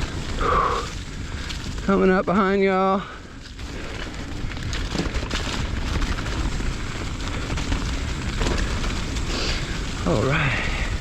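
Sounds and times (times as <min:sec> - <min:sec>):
tyres rolling on dirt: 0:00.0 - 0:11.0.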